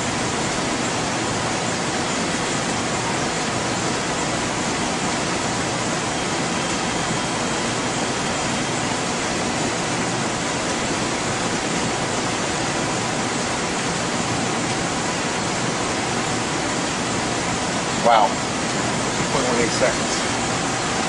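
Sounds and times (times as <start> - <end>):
equipment fans hiss: 0.0 - 21.0.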